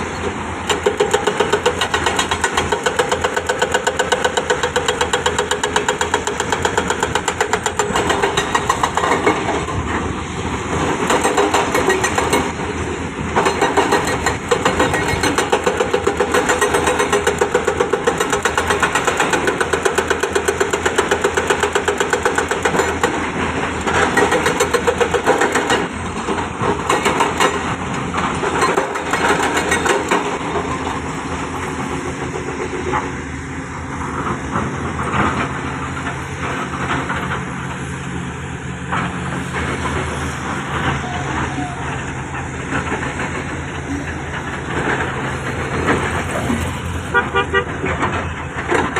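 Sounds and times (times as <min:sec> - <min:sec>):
diesel engine throbbing: 0:00.0 - 0:48.9.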